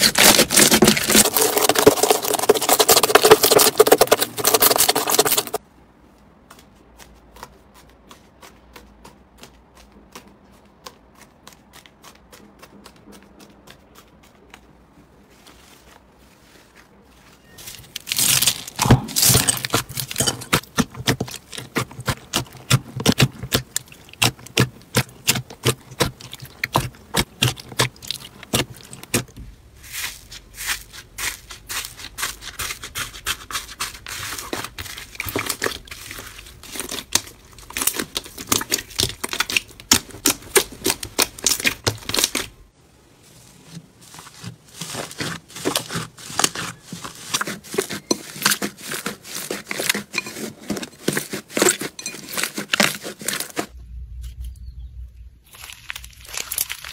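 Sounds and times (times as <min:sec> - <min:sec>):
hands kneading slime: 0:00.0 - 0:53.8.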